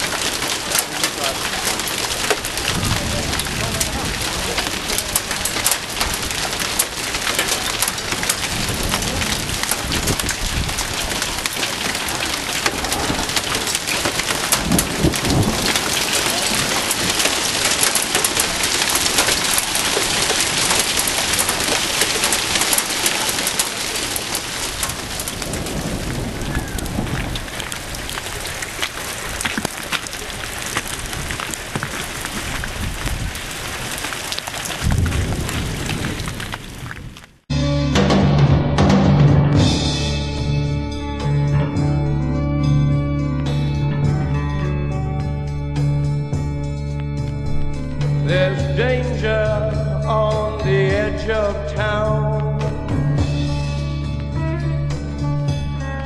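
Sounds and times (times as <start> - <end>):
hail and heavy rain pelting: 0.0 - 37.5, 45.2 - 55.9.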